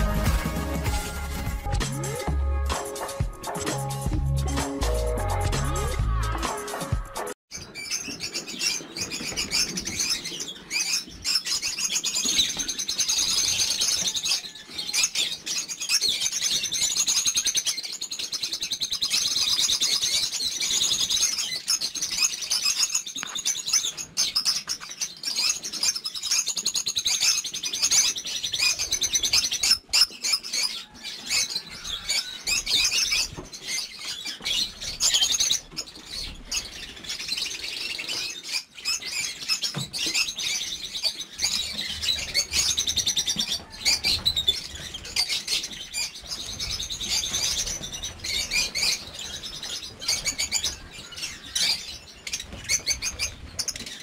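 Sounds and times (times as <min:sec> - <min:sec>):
birds chirping and squawking: 0:00.0 - 0:54.0.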